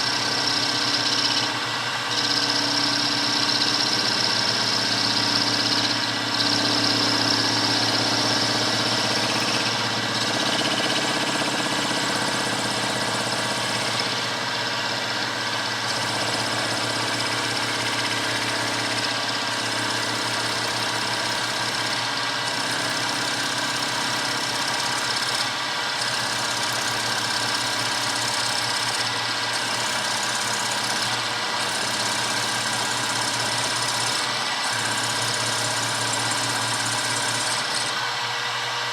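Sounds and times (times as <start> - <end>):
milling machine cutting: 0.0 - 38.9.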